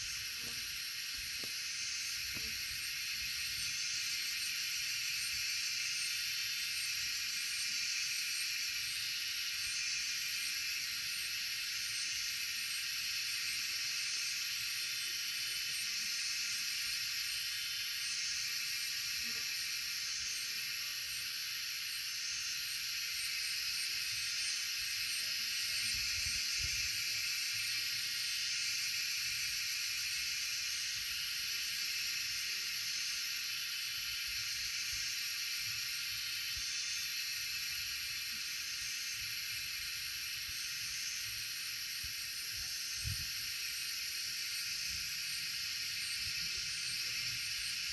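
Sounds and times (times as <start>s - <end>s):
steady high-pitched hiss: 0.0s - 47.9s.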